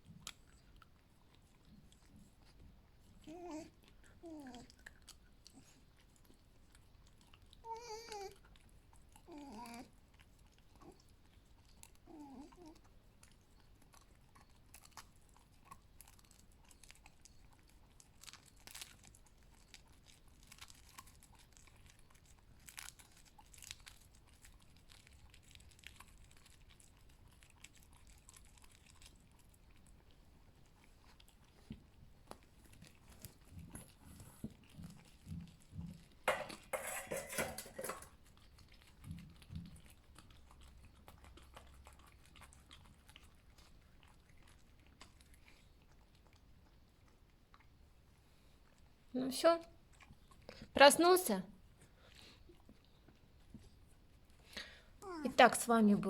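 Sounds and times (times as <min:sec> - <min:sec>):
fox chewing and crunching food: 0:00.0 - 0:56.0.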